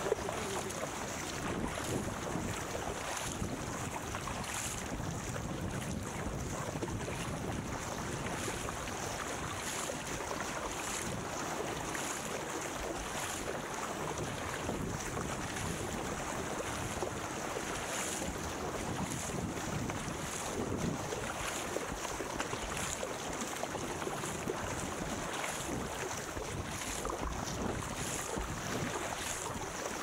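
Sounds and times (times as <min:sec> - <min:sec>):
wind buffeting microphone: 0:00.0 - 0:11.4, 0:14.0 - 0:17.4, 0:18.0 - 0:30.0
paddle blades splashing: 0:00.0 - 0:30.0
water rushing past hull: 0:00.0 - 0:30.0.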